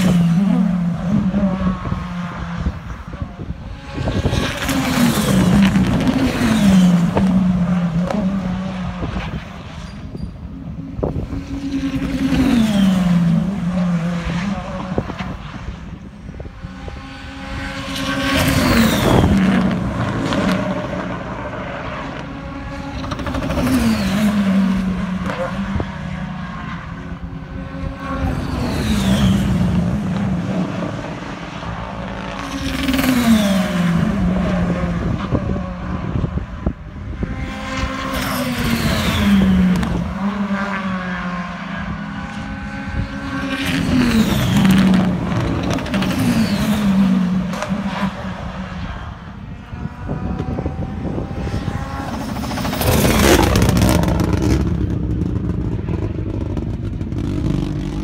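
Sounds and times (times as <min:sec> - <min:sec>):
racing car engines passing: 0:00.0 - 0:58.0.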